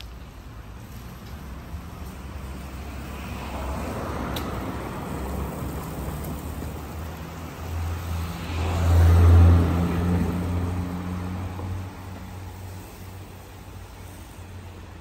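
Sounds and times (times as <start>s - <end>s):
steady traffic noise: 0.0s - 15.0s
vehicle engine rumble passing: 0.1s - 15.0s.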